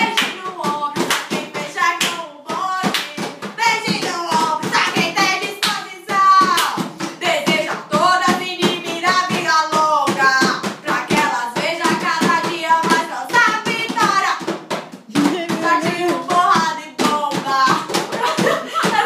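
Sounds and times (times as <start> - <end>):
hand-struck beat: 0.0 - 19.0
young voices singing: 0.0 - 19.0.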